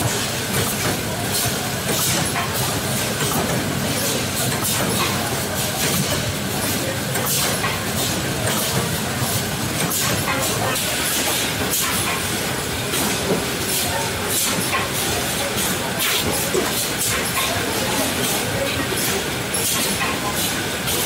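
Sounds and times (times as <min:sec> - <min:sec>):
packing machinery running: 0:00.0 - 0:21.0.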